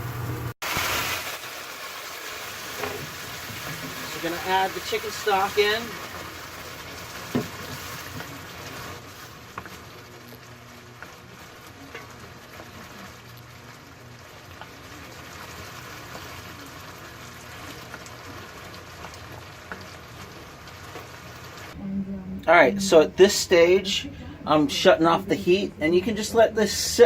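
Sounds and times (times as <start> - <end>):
stock sizzling in a pan: 0.0 - 21.8.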